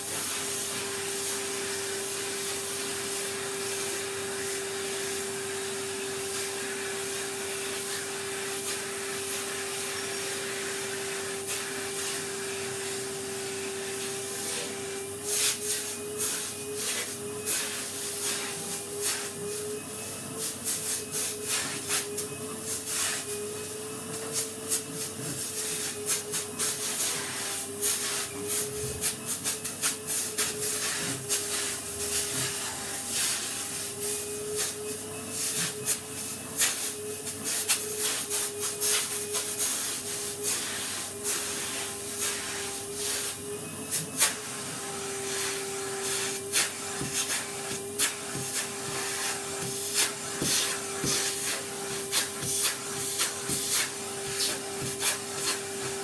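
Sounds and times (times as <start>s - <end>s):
vacuum cleaner whining: 0.0s - 56.0s.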